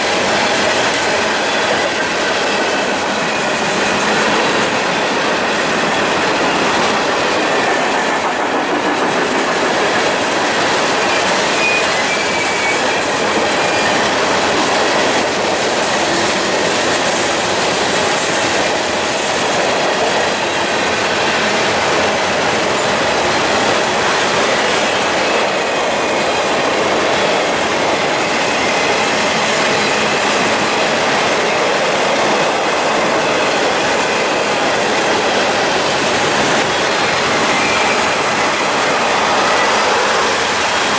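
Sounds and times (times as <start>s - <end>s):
clickety-clack of rail joints: 0.0s - 40.9s
train wheels rushing on rail: 0.0s - 40.9s.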